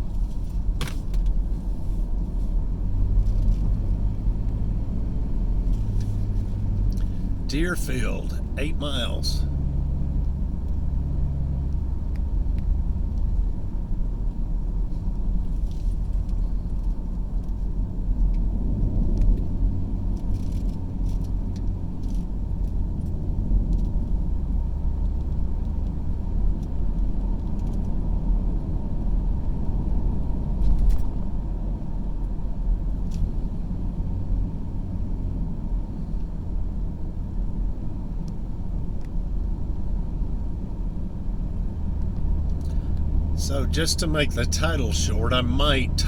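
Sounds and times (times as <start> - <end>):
car engine and tyres rumbling: 0.0 - 46.0.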